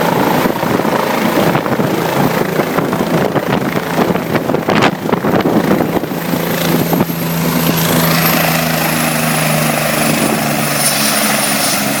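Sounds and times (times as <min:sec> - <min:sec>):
helicopter hum and whine: 0:00.0 - 0:12.0
helicopter rotor chop: 0:00.0 - 0:12.0.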